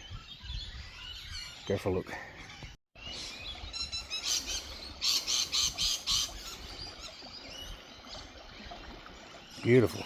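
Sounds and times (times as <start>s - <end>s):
wild birds chirping: 0.0s - 10.0s.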